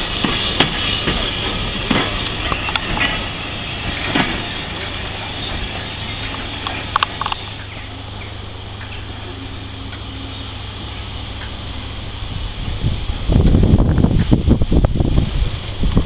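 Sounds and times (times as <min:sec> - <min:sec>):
train coaches rolling past: 0:00.0 - 0:16.0
wheels clicking over rail joints: 0:00.0 - 0:16.0.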